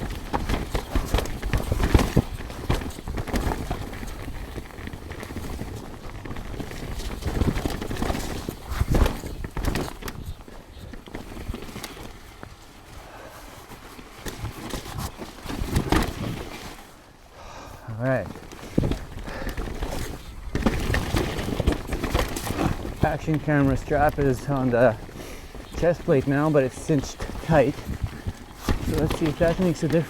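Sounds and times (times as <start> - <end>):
tyres on dirt: 0.0 - 17.1, 17.8 - 30.0
mountain bike rattling: 0.0 - 17.2, 18.0 - 30.0.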